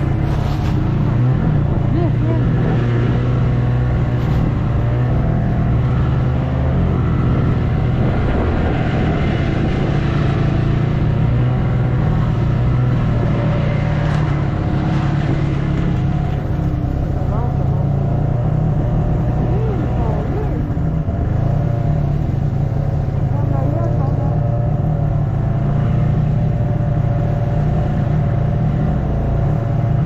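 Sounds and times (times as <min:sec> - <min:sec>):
snowmobile engine droning: 0:00.0 - 0:30.0.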